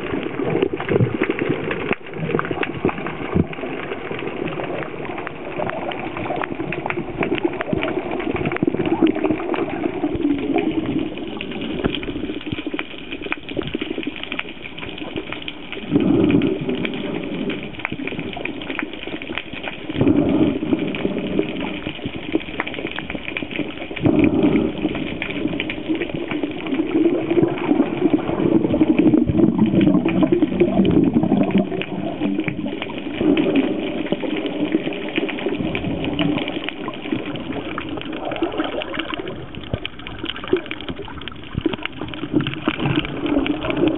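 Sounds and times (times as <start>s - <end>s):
sea water sloshing and bubbling: 0.0s - 43.9s.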